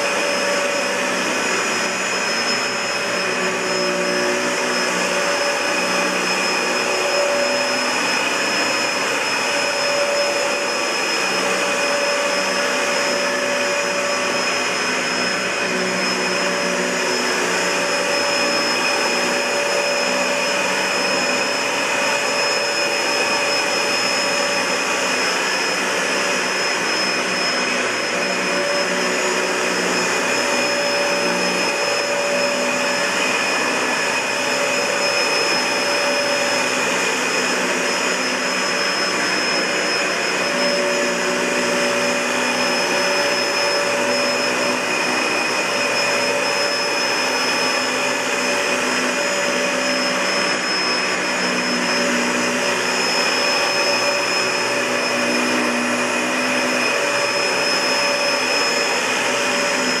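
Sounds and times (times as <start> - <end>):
vacuum cleaner running over carpet: 0.0 - 60.0.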